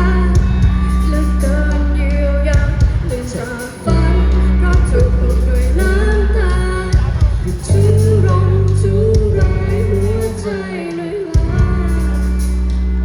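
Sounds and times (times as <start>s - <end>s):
heavy sustained bass notes: 0.0s - 13.0s
live band playing: 0.0s - 13.0s
person singing: 0.0s - 13.0s.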